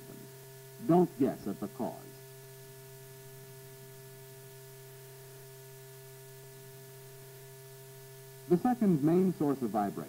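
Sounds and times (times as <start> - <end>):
electrical hum with hiss: 0.0 - 10.0.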